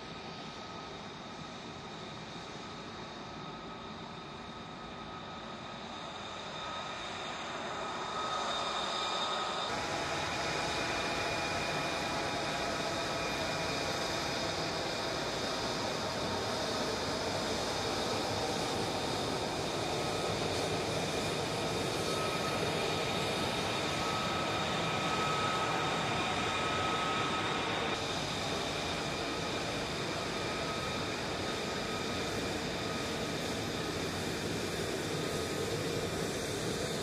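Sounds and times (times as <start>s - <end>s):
jet engine rush: 0.2s - 37.0s.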